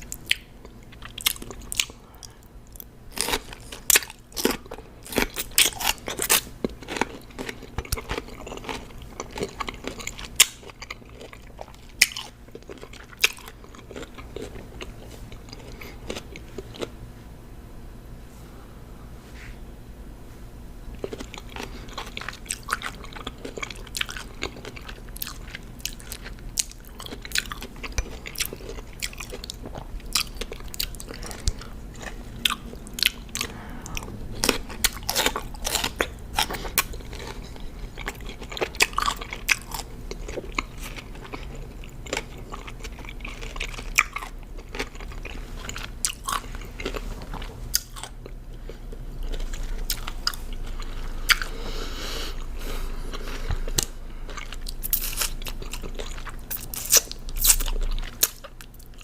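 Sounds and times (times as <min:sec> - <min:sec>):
crunchy chewing: 0:00.0 - 0:17.0, 0:20.9 - 0:59.0.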